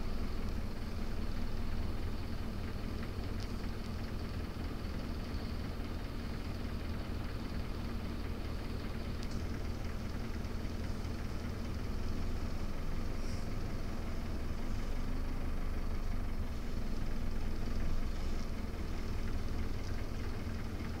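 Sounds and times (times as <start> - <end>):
bus engine droning: 0.0 - 21.0
road noise: 0.0 - 21.0.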